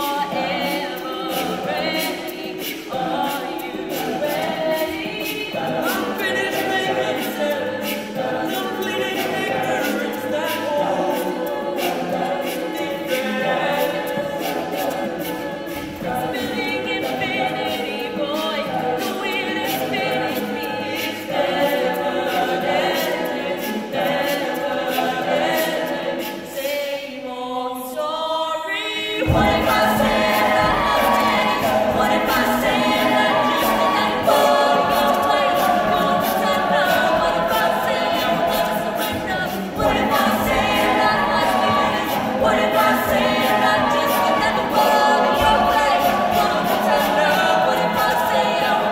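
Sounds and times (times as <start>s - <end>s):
steady clicking beat: 0.0s - 26.6s, 29.2s - 48.9s
a cappella group singing: 0.0s - 48.9s.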